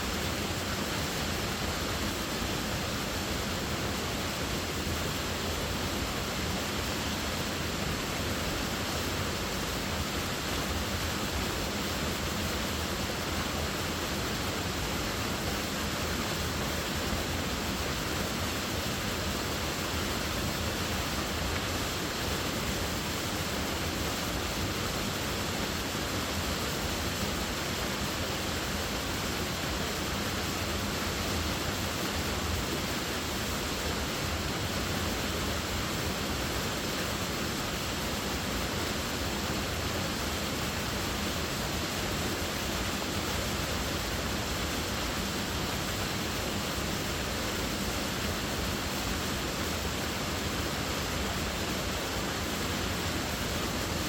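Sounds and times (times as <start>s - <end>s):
waterfall splashing: 0.0s - 54.0s.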